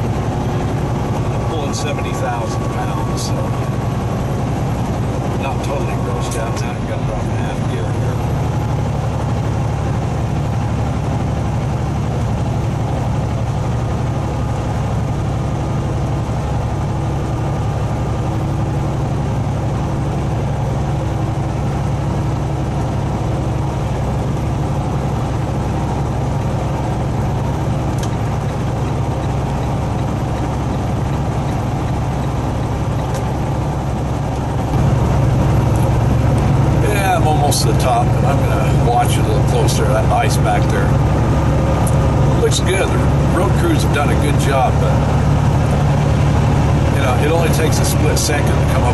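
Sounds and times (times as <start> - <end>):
diesel truck engine running: 0.0 - 48.9
road noise: 0.0 - 48.9.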